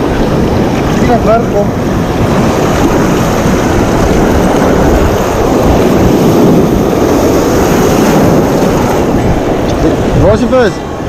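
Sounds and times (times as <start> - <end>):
surf breaking: 0.0 - 11.0
wind buffeting microphone: 0.0 - 11.0.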